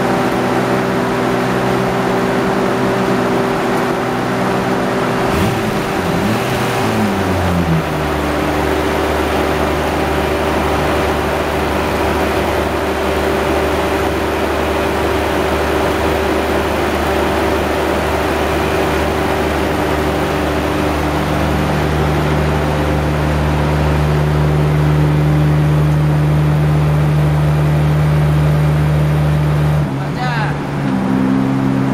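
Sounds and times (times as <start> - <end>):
turbocharged car engine droning: 0.0 - 31.9.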